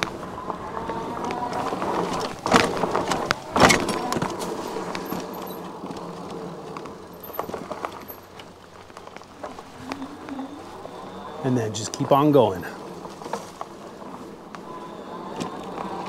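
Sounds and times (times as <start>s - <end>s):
bike rattling over bumps: 0.0s - 16.0s
bike tyres on loose dirt: 0.0s - 16.0s.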